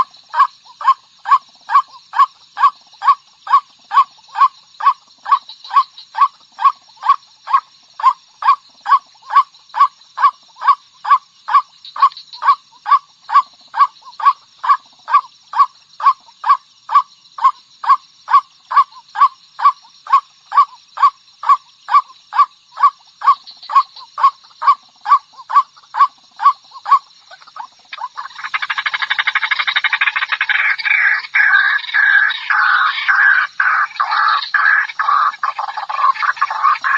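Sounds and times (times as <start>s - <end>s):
waterhen calling: 0.0s - 36.9s.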